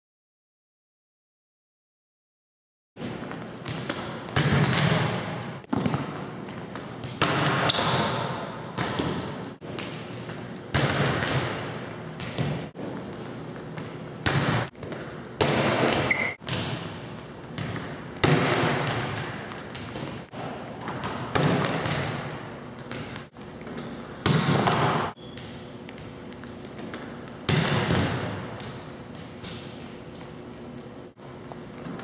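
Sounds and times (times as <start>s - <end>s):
volleyballs bouncing on gym floor: 3.0s - 32.0s.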